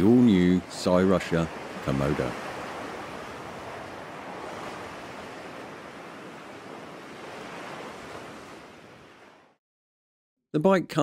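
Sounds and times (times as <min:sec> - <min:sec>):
sea surf washing onto beach: 0:00.0 - 0:09.6.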